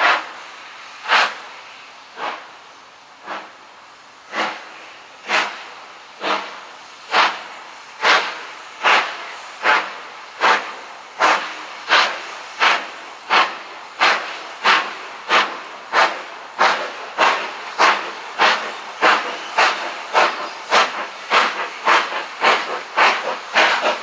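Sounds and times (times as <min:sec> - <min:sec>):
steam hissing: 0:00.0 - 0:24.0
steam locomotive exhaust chuffs: 0:00.0 - 0:24.0.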